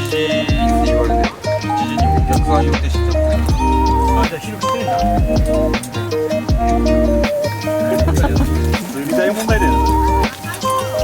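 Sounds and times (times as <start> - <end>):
music with drum beat: 0.0 - 11.0.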